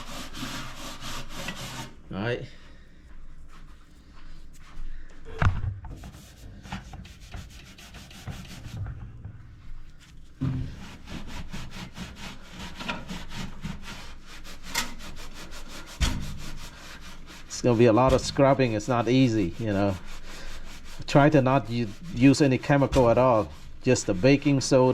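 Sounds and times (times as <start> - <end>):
sponge scrubbing a surface: 0.0 - 2.0, 6.0 - 8.9, 9.8 - 24.9.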